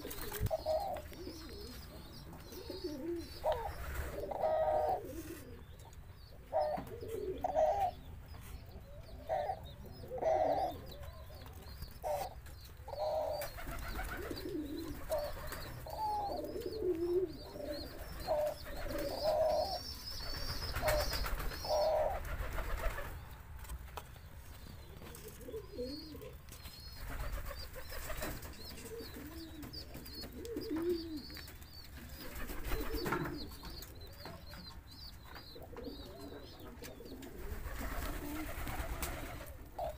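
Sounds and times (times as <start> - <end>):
doves cooing: 0.0 - 23.4, 24.8 - 39.9.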